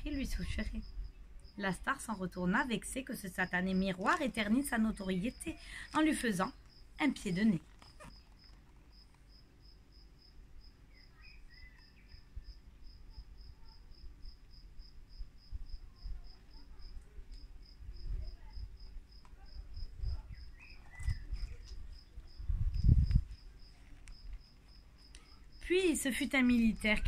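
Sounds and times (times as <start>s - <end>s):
cricket chirping: 3.4s - 27.0s.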